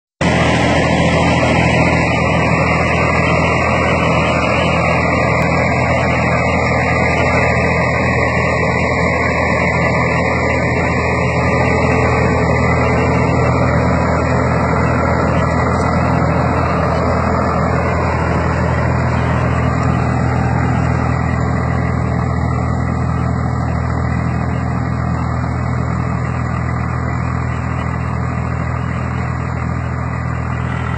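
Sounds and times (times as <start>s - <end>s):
tractor engine under load: 0.2s - 30.9s.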